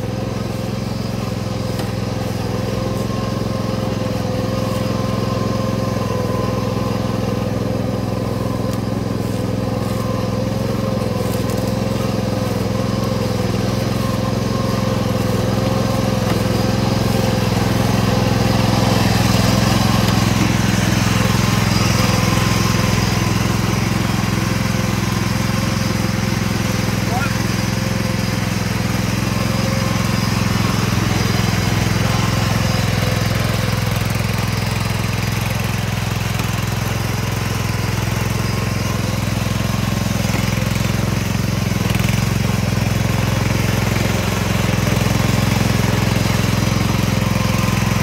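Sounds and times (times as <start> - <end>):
tractor engine running under load: 0.0 - 48.0.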